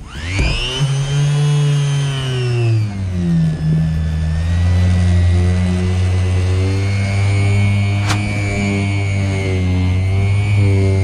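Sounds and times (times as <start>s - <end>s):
orbital sander motor whine: 0.0s - 11.0s.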